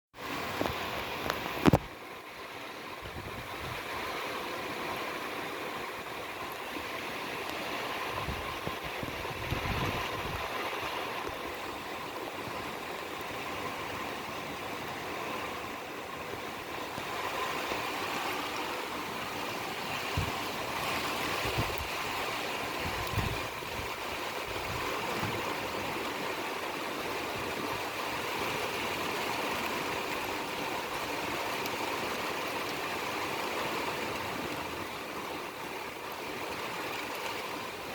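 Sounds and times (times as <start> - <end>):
heavy rain pouring: 0.2 - 37.9.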